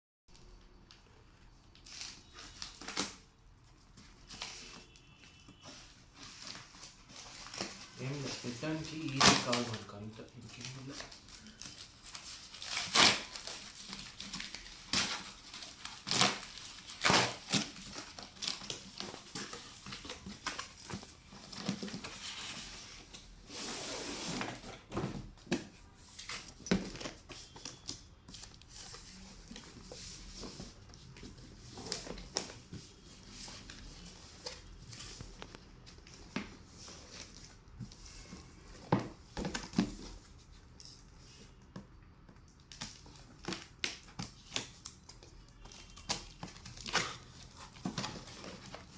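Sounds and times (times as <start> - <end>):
packaging rustling: 1.6 - 41.1.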